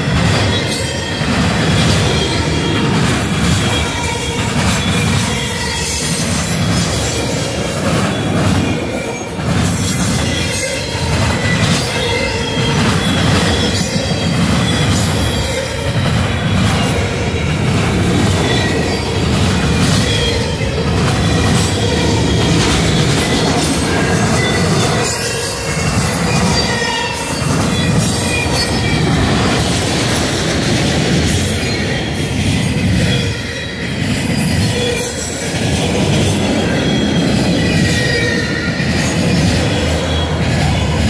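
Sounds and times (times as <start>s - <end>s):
high wheel squeal: 0.0s - 41.0s
train wheels rumbling on rail: 0.0s - 41.0s.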